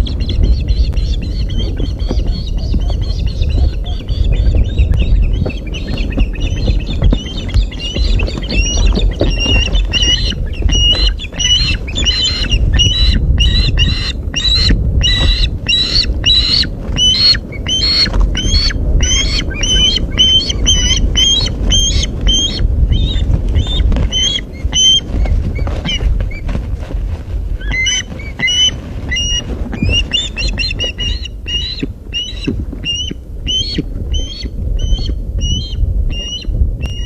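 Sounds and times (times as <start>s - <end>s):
bird squawking: 0.0s - 26.0s, 27.6s - 37.0s
low rumble: 0.0s - 37.0s.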